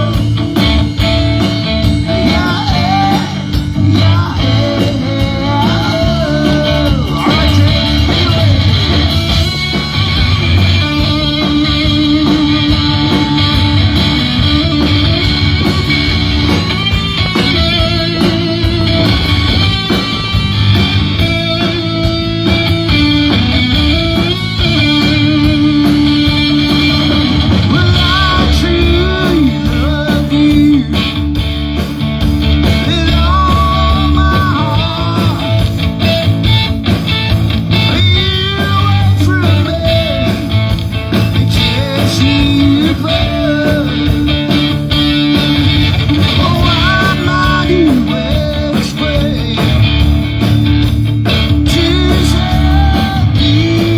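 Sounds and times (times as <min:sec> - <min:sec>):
bass guitar: 0:00.0 - 0:53.9
drums: 0:00.0 - 0:53.9
electric lead guitar: 0:00.0 - 0:53.9.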